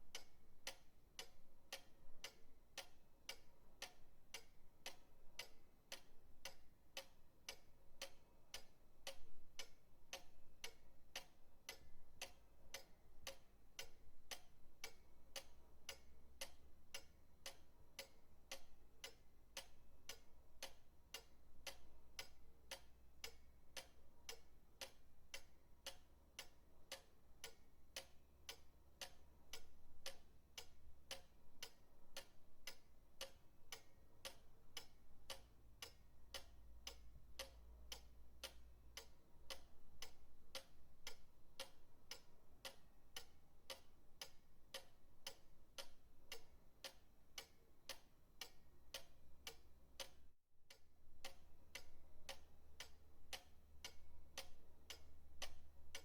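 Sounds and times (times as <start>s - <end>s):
pendulum clock ticking: 0.0s - 56.0s.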